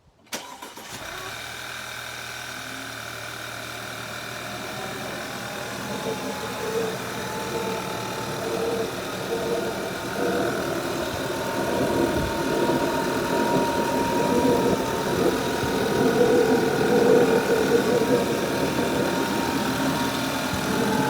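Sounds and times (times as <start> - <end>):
car engine idling: 0.8 - 21.0.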